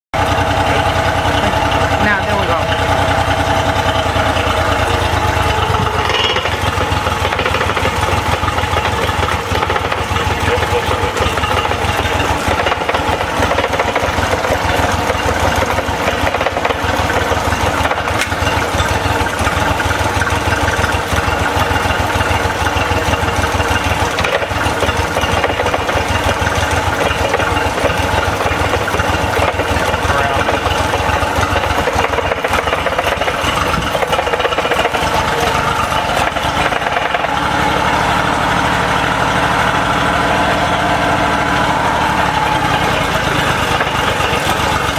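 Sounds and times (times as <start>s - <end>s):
outboard motor idling: 0.1s - 44.9s
rapid engine knocking: 0.2s - 44.9s.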